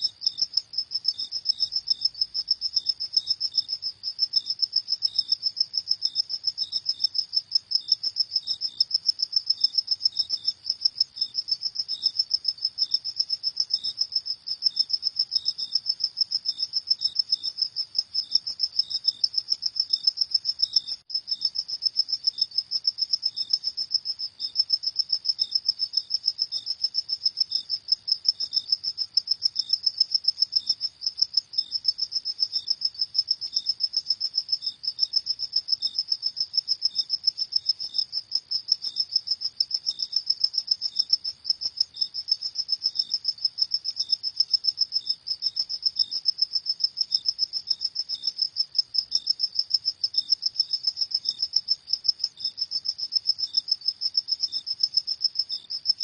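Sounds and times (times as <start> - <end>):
crickets chirping: 0.0 - 56.0
fainter lower cricket chirps: 0.0 - 56.0.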